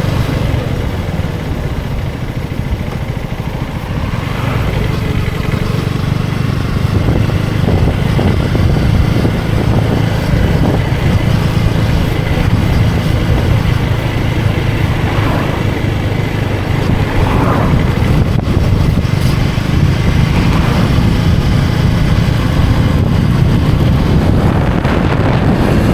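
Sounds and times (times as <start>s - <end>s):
motorcycle engine running: 0.0s - 25.9s
road and wind noise: 0.0s - 25.9s.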